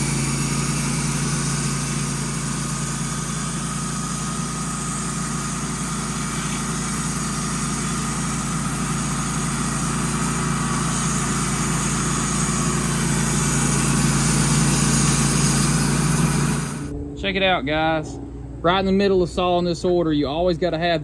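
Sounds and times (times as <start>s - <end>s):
band sawmill running: 0.0s - 16.9s.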